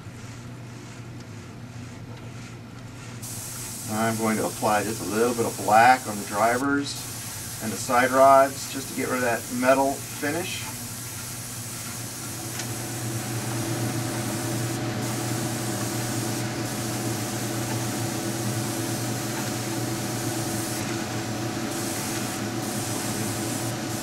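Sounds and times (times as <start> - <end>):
steady low hum: 0.0 - 24.0
airbrush hissing: 3.2 - 24.0.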